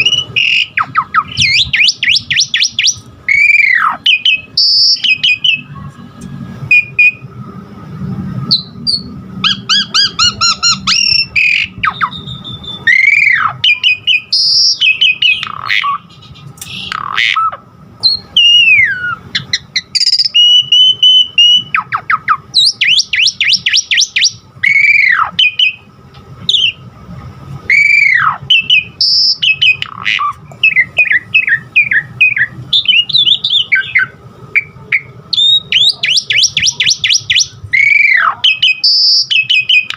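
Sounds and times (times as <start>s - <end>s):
starling singing: 0.0s - 6.1s, 8.5s - 25.9s, 27.7s - 39.9s.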